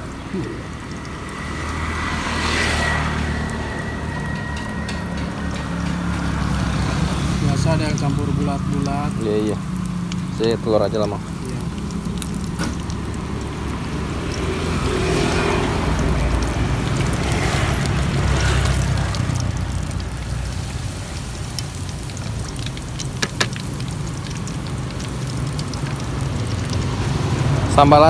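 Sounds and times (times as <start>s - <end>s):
oil sizzling in a wok: 0.0s - 28.0s.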